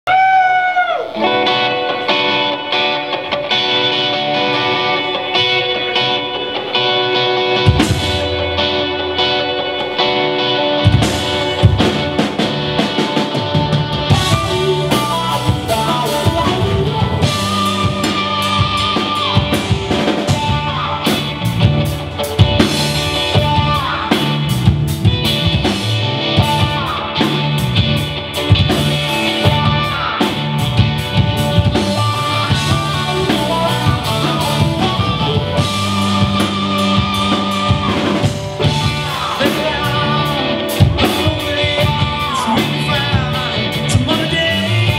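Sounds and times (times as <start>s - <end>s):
drum kit: 0.1s - 44.9s
electric guitars: 0.1s - 44.9s
electric bass: 1.0s - 44.9s.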